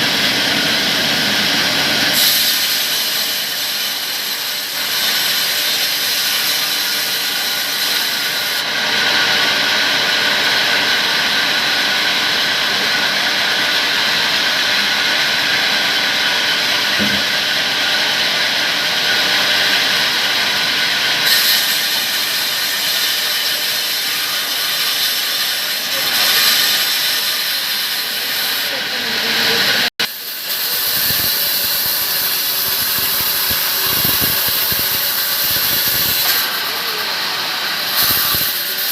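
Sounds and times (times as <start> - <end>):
power saw cutting wood: 0.0 - 38.9.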